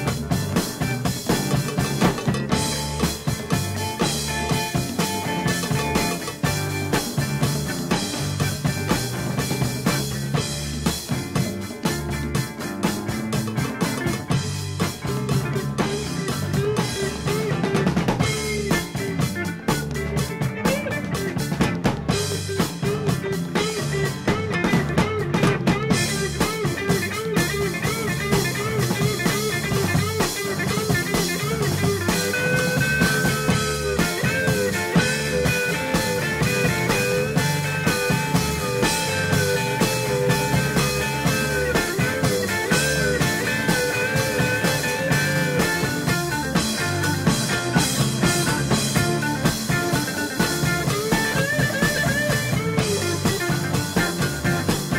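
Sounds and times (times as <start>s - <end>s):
rock music with drums and guitar: 0.0s - 54.9s.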